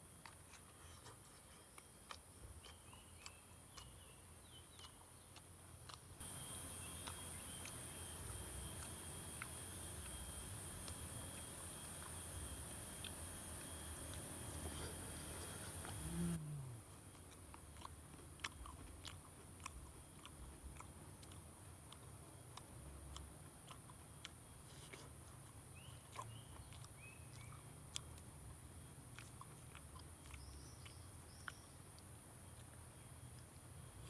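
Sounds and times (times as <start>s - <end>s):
person chewing crunchy food: 0.0s - 34.0s.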